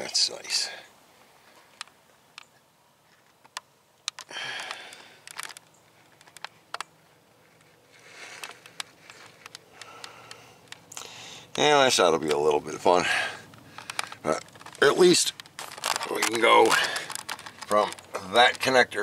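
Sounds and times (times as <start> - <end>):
camera handling clicks and rustles: 1.6 - 11.6, 13.4 - 18.6.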